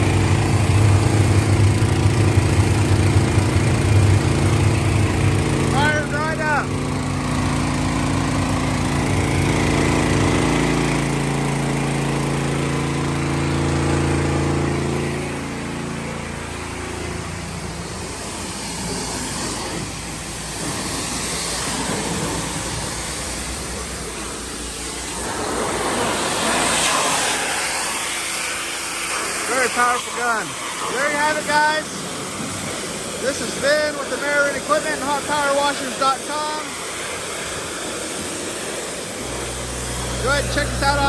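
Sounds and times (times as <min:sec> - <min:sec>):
pressure washer engine humming: 0:00.0 - 0:41.0
rough rushing spray noise: 0:00.0 - 0:41.0.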